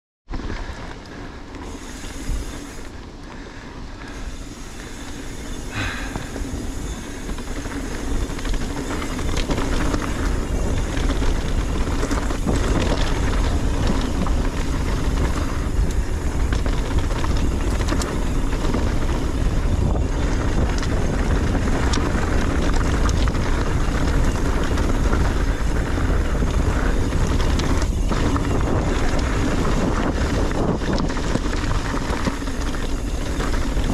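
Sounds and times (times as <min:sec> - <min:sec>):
bike clicks and rattles: 0:00.3 - 0:33.9
tyre noise on dirt: 0:04.2 - 0:33.9
wind rushing over microphone: 0:05.0 - 0:33.9.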